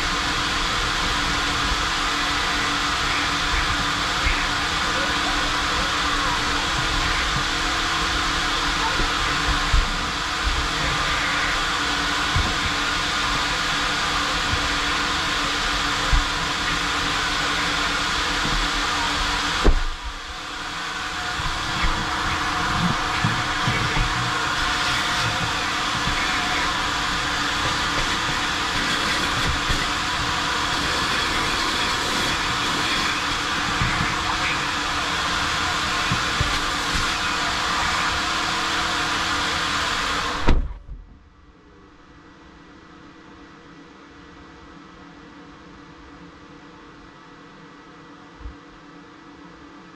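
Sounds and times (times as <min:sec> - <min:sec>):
vacuum hose drawing air: 0:00.0 - 0:40.6.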